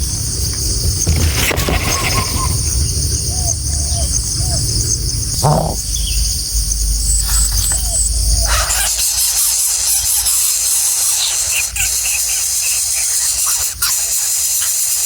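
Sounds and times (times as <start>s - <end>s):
crickets chirping: 0.0s - 14.8s.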